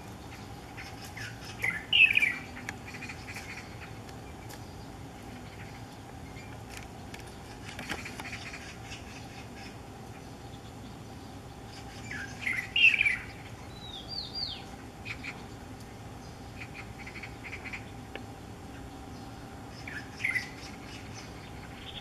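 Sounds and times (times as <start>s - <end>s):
bird singing warbled phrases: 0.0s - 22.0s.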